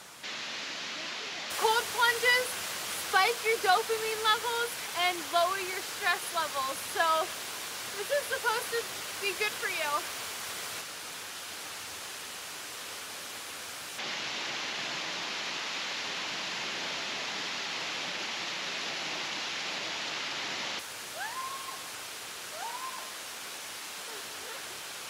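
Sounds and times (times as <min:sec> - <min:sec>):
waterfall pouring into a pool: 0:00.0 - 0:25.0.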